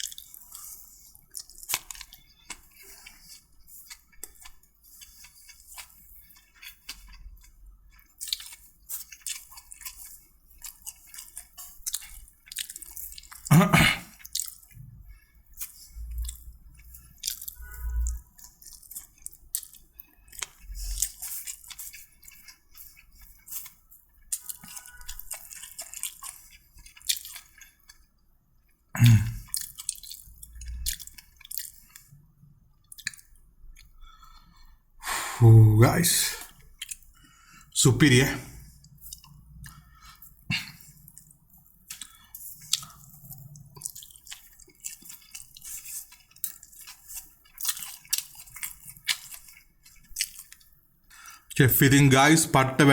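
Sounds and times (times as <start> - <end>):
wet chewing: 0.0 - 35.0, 36.1 - 52.9.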